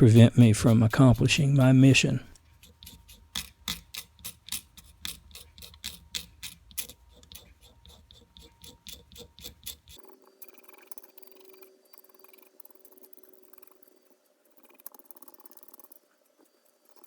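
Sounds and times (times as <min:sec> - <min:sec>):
sharp ticks: 0:00.0 - 0:13.9, 0:14.5 - 0:16.0.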